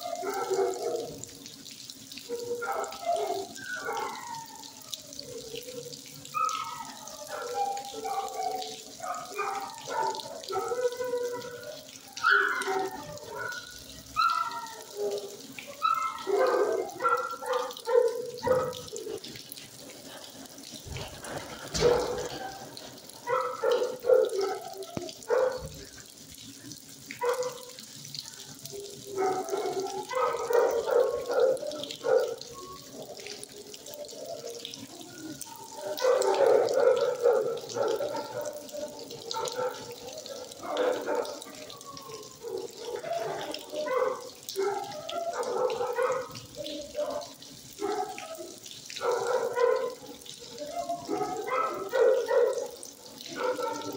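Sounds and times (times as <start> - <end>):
dogs barking and howling: 0.0 - 53.9.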